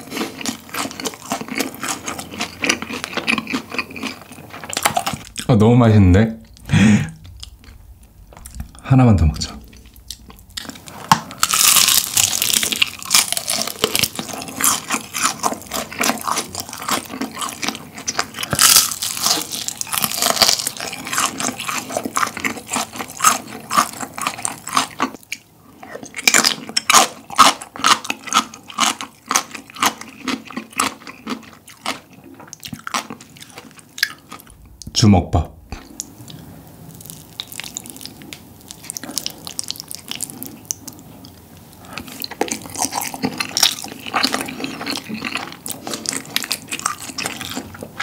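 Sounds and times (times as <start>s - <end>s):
crunching fried chicken: 0.0s - 5.5s, 8.4s - 34.6s, 35.9s - 48.0s.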